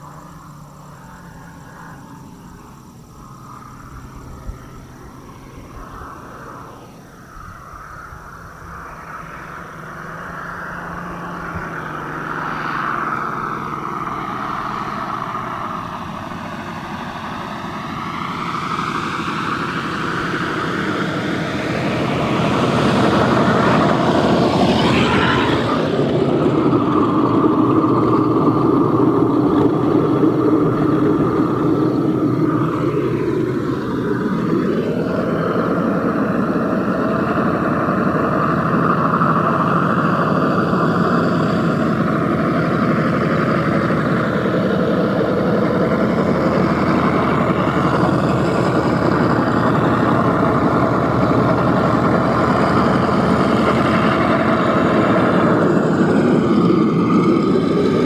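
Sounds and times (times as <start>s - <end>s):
simulated radial engine sound: 0.0s - 58.0s
model plane electric motor whine: 7.5s - 58.0s.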